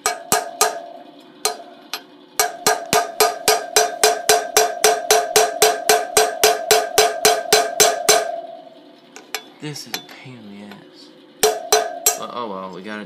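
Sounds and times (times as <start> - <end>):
hammer striking metal: 0.0 - 8.6, 9.2 - 10.1, 11.4 - 12.4.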